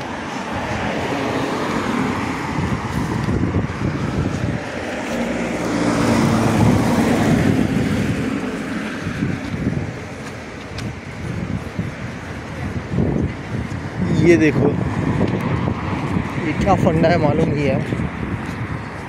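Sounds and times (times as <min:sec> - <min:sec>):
road traffic passing: 0:00.0 - 0:19.0
vehicle engine drone passing: 0:00.0 - 0:19.0.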